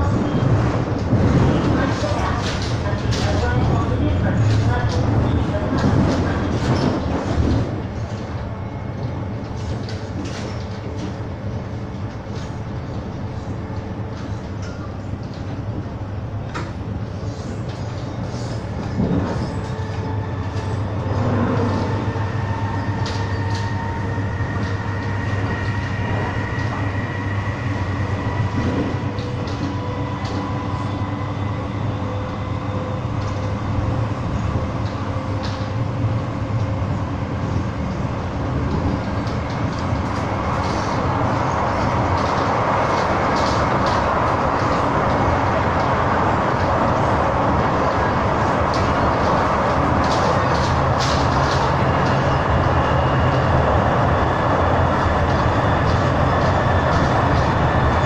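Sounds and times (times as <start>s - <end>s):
electric train motor rumble and whine: 0.0s - 58.0s
train rushing running noise: 0.0s - 58.0s.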